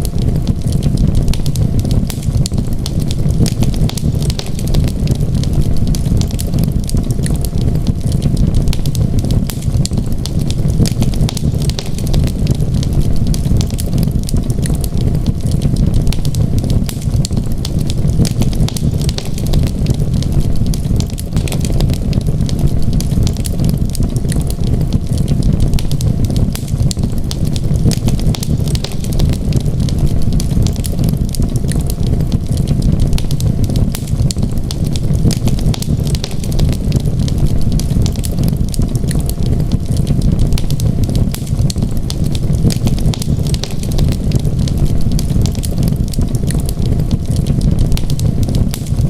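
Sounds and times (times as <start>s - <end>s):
rumble of fire flames: 0.0s - 49.0s
wood fire crackles and pops: 0.0s - 49.0s.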